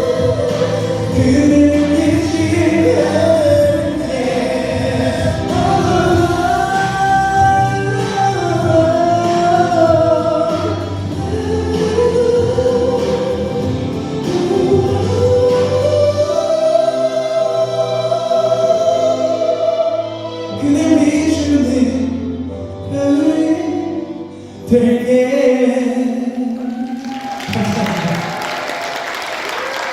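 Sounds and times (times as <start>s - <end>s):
man singing a ballad: 0.0s - 28.3s
backing track music: 0.0s - 29.9s.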